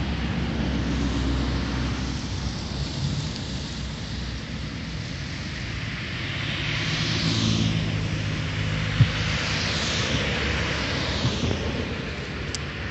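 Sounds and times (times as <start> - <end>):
cars passing with hiss: 0.0 - 12.9
low engine hum: 0.0 - 12.9.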